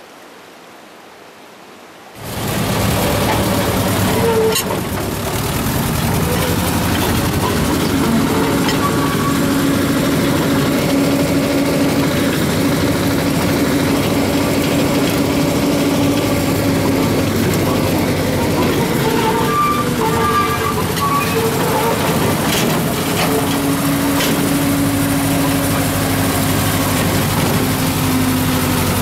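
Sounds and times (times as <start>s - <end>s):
locomotive engine drone: 2.2s - 29.0s
wheel and rail noise: 2.2s - 29.0s.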